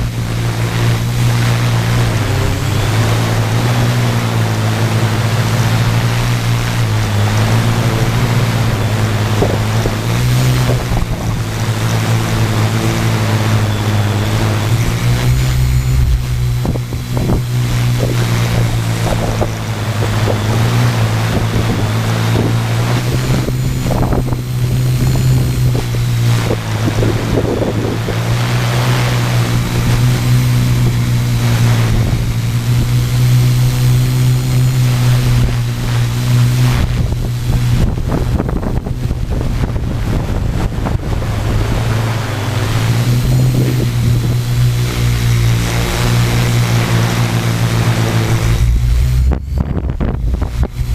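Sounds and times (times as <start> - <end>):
quadcopter motors humming: 0.0 - 50.9
wind rushing over microphone: 0.0 - 50.9.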